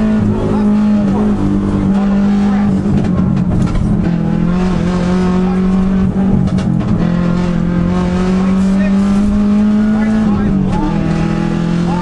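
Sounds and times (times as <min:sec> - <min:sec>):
car engine running hard: 0:00.0 - 0:12.0
wind and road noise: 0:00.0 - 0:12.0.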